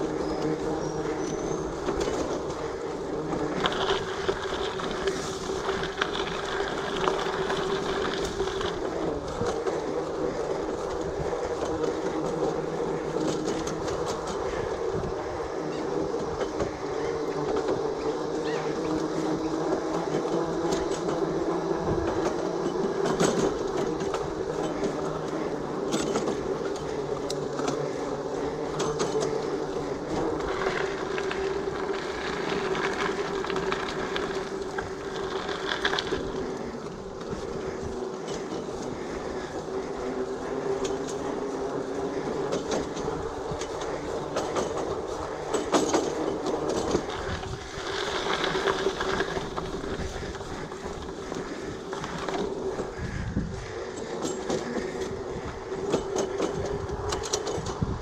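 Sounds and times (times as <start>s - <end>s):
bike rattling and knocking: 0.0s - 58.0s
bike tyres humming: 0.0s - 58.0s.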